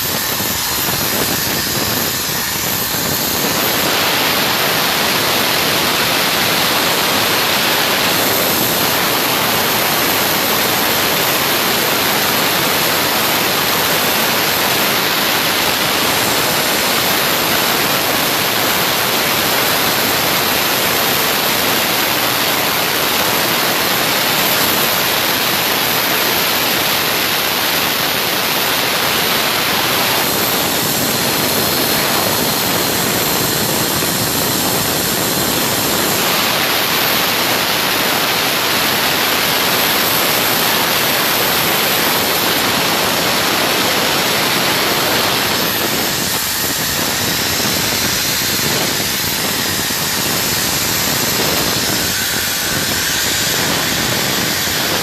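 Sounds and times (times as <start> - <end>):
oxygen machine air hiss: 0.0 - 55.0.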